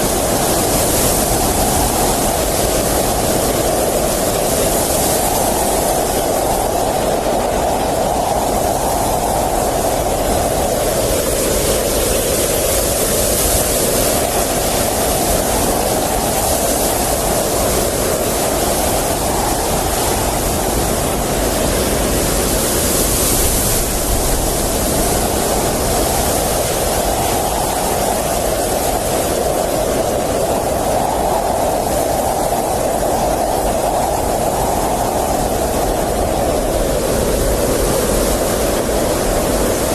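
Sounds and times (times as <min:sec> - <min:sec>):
blizzard wind howling: 0:00.0 - 0:39.9.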